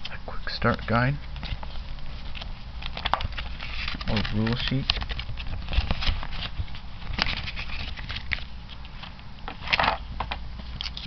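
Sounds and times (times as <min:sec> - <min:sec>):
paper rustling: 0:00.6 - 0:11.0.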